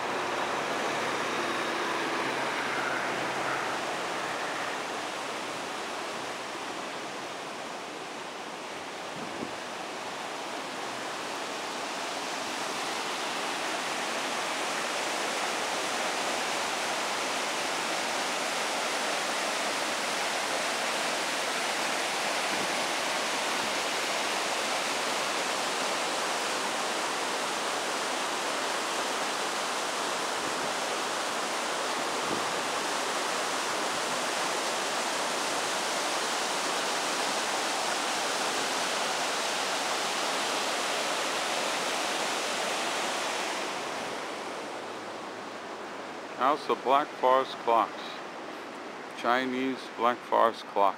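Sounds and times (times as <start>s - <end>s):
river rushing over rocks: 0.0s - 50.9s.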